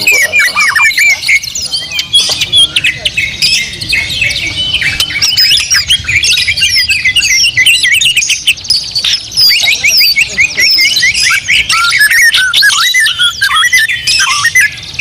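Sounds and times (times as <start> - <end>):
birds singing whistled phrases: 0.0 - 15.0.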